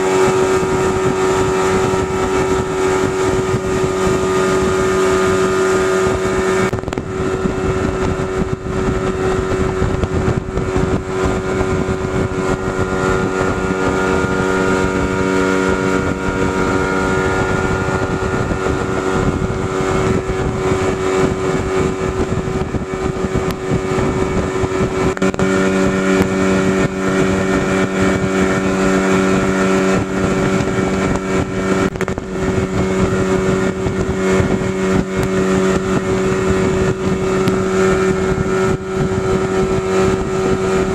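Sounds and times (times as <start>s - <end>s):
small boat motor running: 0.0s - 40.9s.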